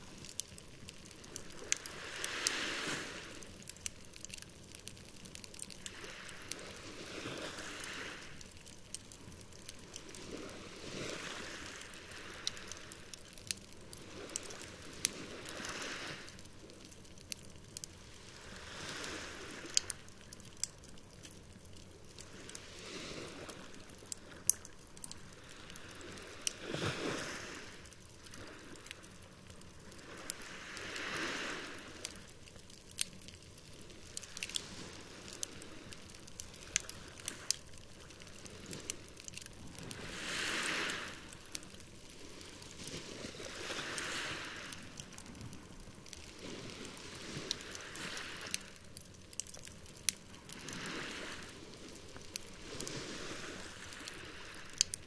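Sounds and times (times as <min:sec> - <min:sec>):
campfire crackling: 0:00.0 - 0:55.0
small waves washing ashore: 0:00.0 - 0:55.0.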